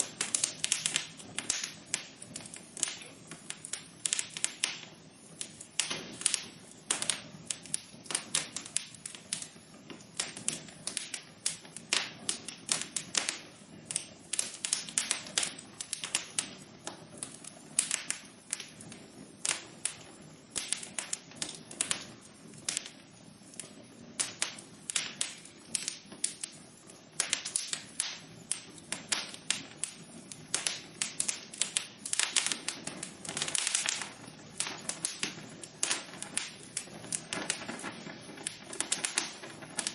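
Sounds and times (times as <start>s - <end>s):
hiss of burning: 0.0s - 39.9s
wood fire crackling: 0.0s - 39.9s.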